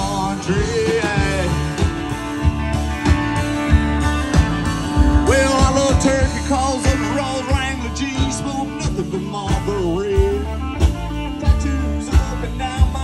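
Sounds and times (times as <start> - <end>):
country rock band playing: 0.0 - 13.0
steady drum beat: 0.0 - 13.0.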